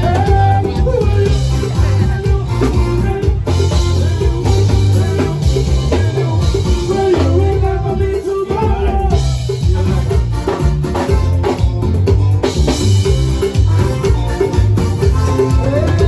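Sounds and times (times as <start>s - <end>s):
band music over loudspeakers: 0.0s - 16.0s
drum kit beat: 0.0s - 16.0s
electric guitar: 0.0s - 16.0s
repeating bass line: 0.0s - 16.0s.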